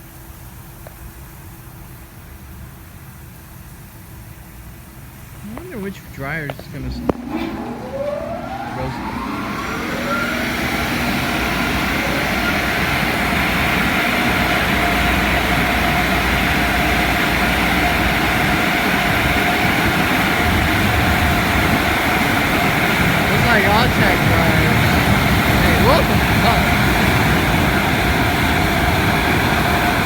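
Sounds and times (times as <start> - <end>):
air dryer blowers whining: 5.3 - 30.0
steady hum: 5.3 - 30.0.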